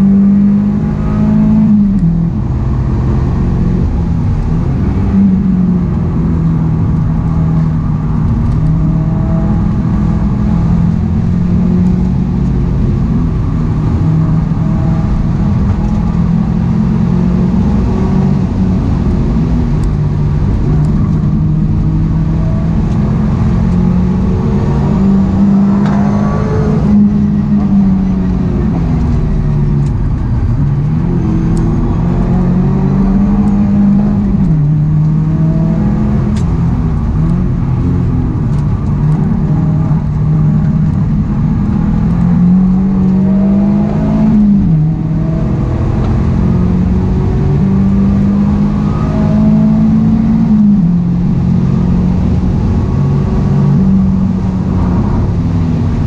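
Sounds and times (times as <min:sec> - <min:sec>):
car engine revving and shifting: 0:00.0 - 0:56.0
road and wind noise: 0:00.0 - 0:56.0.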